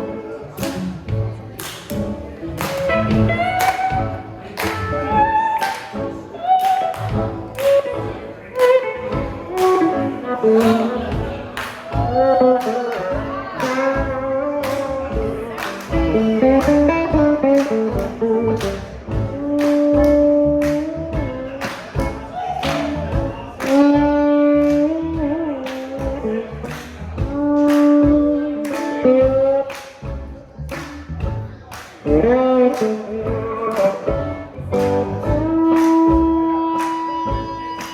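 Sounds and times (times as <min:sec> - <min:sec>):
guitar: 0:00.0 - 0:37.9
drums keeping a beat: 0:00.5 - 0:37.9.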